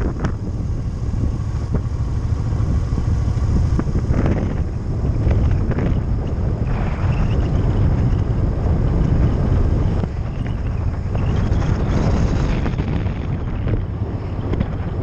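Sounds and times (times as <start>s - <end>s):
motorcycle and road rumble: 0.0s - 15.0s
wind buffeting microphone: 0.0s - 15.0s.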